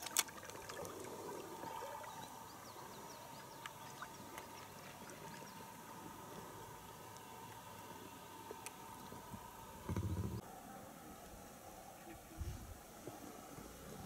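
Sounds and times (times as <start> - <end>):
soft water sounds: 0.0 - 14.0.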